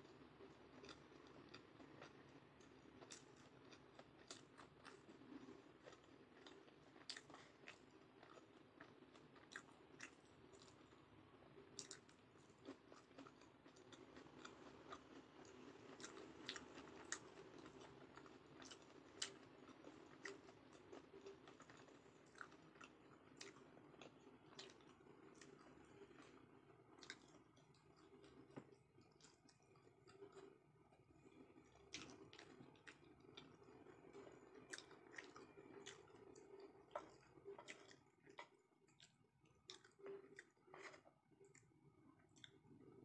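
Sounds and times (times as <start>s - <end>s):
chewing food: 0.0s - 43.0s.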